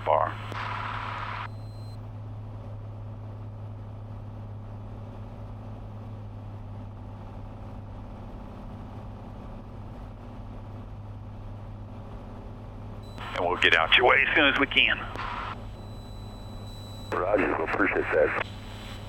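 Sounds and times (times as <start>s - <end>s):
airplane engine and propeller droning: 0.0s - 19.0s.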